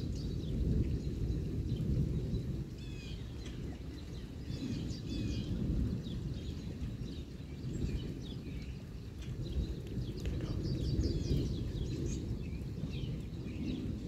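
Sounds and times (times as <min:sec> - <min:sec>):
birds chirping: 0:00.0 - 0:14.0
distant rolling thunder: 0:00.0 - 0:14.0.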